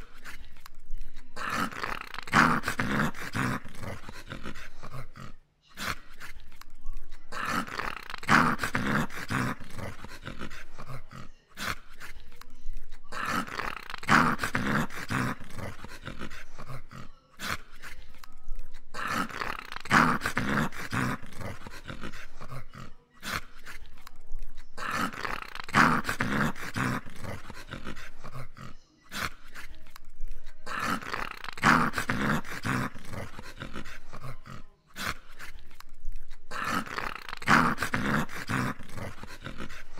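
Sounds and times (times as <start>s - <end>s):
dog grumbling: 0.0s - 12.2s, 12.8s - 39.9s.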